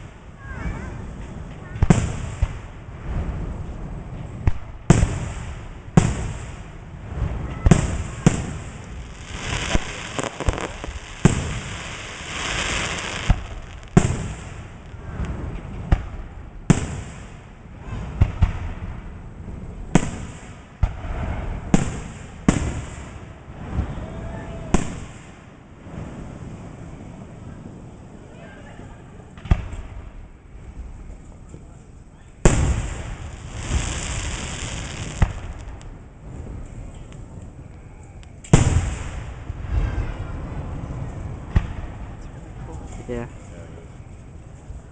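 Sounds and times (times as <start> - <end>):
fireworks bangs: 0.0 - 27.9, 29.2 - 31.2, 32.3 - 37.6, 38.4 - 43.4
fireworks crackling hiss: 0.0 - 28.4, 29.0 - 44.9.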